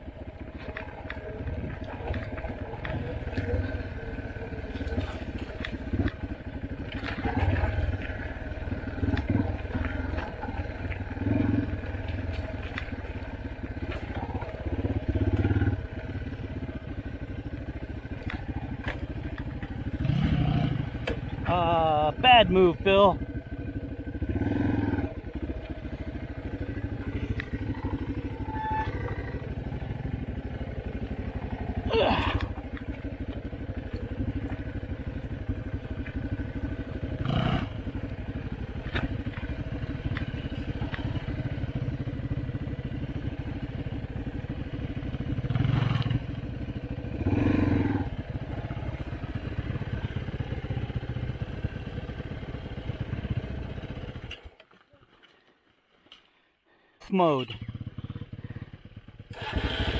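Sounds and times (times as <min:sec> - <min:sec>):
dirt bike engine with throttle blips: 0:00.0 - 0:59.9.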